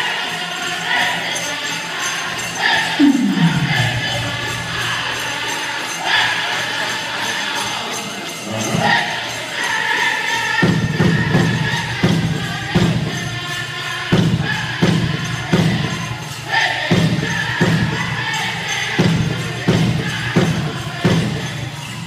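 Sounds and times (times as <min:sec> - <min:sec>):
bells jingling: 0:00.0 - 0:22.0
group singing in high voices: 0:00.0 - 0:22.0.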